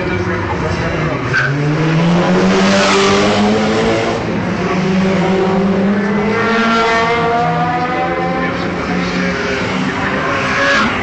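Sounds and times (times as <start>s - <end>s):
sports car engine accelerating: 0.0s - 11.0s.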